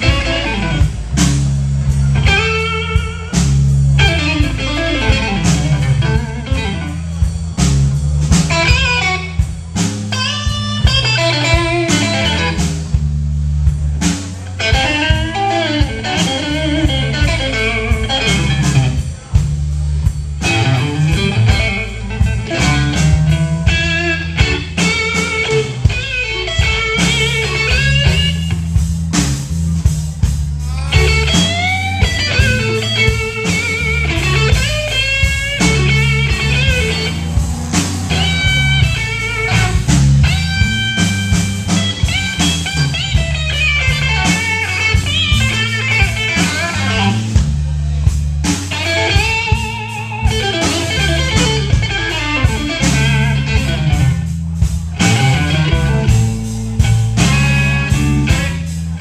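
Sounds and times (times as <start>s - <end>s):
bass guitar: 0.0s - 59.0s
drum kit: 0.0s - 59.0s
electric guitar lead lines: 0.0s - 59.0s.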